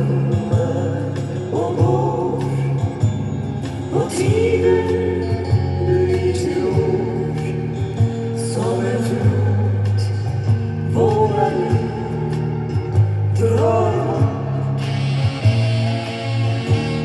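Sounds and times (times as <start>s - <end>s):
pop song: 0.0s - 17.0s.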